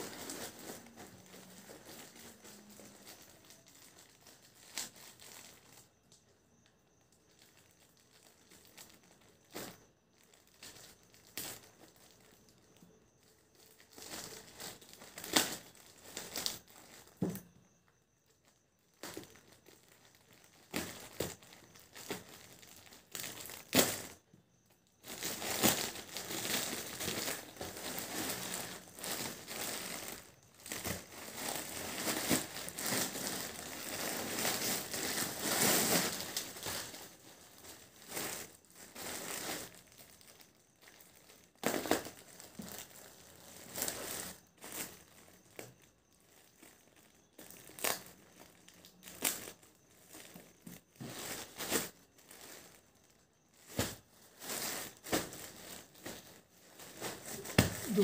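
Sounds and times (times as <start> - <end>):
plastic bag crinkling and tearing: 0.0 - 5.9, 7.3 - 12.4, 13.2 - 17.1, 18.5 - 24.2, 25.0 - 58.0.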